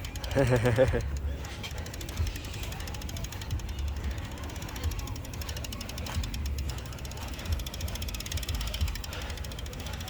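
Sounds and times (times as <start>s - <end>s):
bicycle freewheel ticking: 0.0s - 10.0s.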